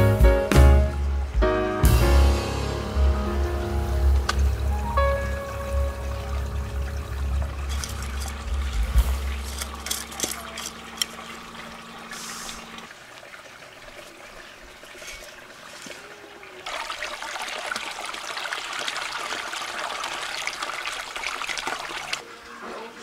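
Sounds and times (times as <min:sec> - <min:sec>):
water running and splashing: 0:02.6 - 0:23.0.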